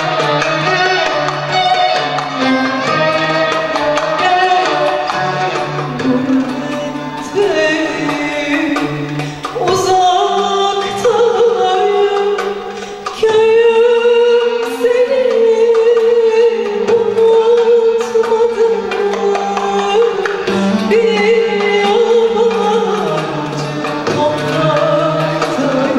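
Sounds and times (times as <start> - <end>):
violins and ensemble accompanying: 0.0 - 25.9
woman singing: 0.0 - 25.9.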